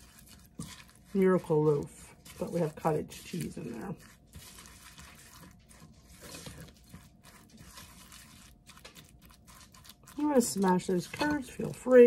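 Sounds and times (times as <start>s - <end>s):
spatula stirring batter in bowl: 0.0s - 12.0s.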